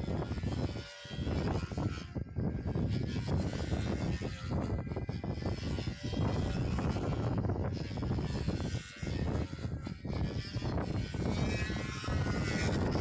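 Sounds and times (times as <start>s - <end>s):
model airplane motor droning: 0.0s - 13.0s
wind buffeting microphone: 0.0s - 13.0s.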